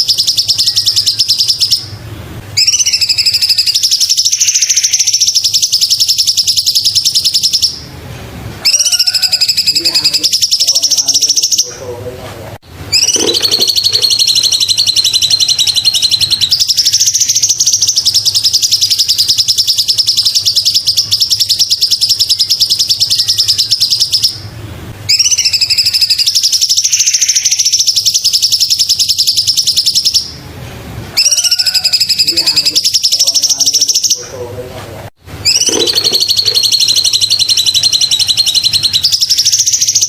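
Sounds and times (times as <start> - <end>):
bird singing chattering trills: 0.0 - 1.9, 2.6 - 7.9, 8.6 - 12.0, 12.9 - 24.5, 25.1 - 30.4, 31.2 - 34.6, 35.4 - 40.0.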